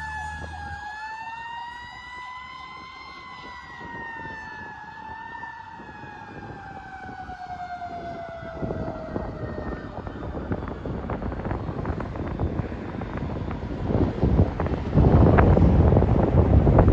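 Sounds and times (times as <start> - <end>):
fire truck siren winding down: 0.0 - 16.9
wind and road noise: 0.0 - 16.9.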